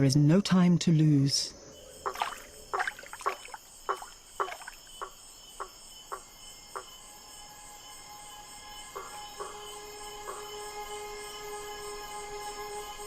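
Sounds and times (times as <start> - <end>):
insect chorus: 0.0 - 13.0.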